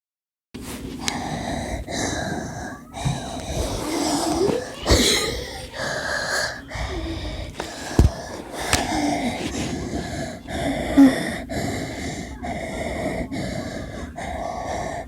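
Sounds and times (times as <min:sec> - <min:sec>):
sharp breath puffs: 0:00.6 - 0:15.0
person breathing heavily: 0:01.0 - 0:15.0.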